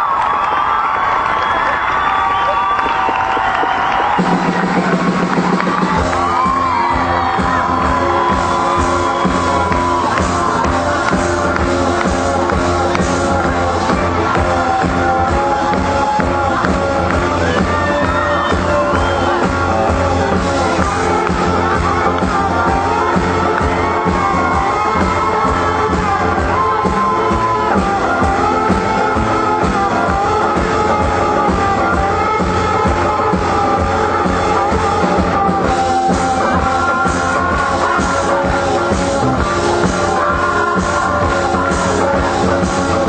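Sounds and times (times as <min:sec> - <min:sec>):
bass and drums: 0:00.0 - 0:43.0
live pop band playing: 0:02.2 - 0:43.0
person singing: 0:04.2 - 0:43.0.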